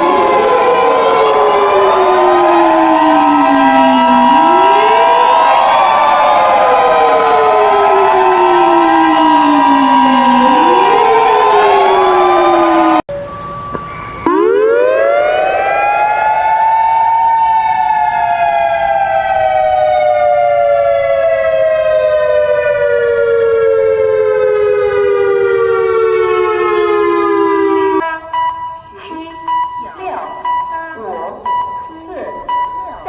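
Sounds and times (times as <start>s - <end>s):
warning siren wailing: 0.0s - 33.0s.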